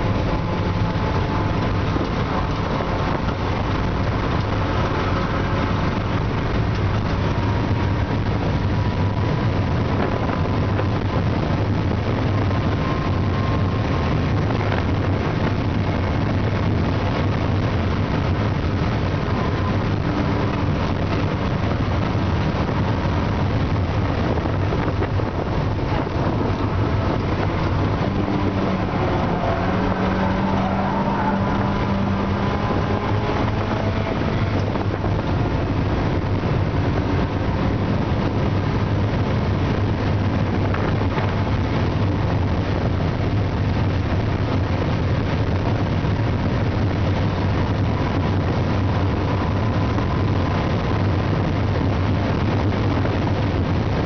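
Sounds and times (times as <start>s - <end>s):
car engine running hard: 0.0s - 54.0s
road noise: 0.0s - 54.0s
wind noise: 0.0s - 54.0s.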